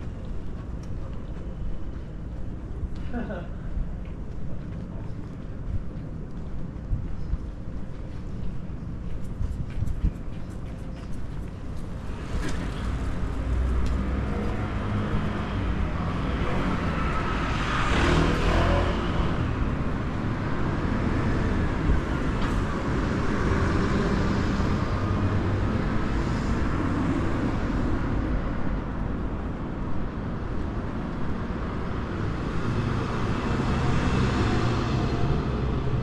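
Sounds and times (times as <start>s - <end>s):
cars passing on street: 0.0s - 36.0s.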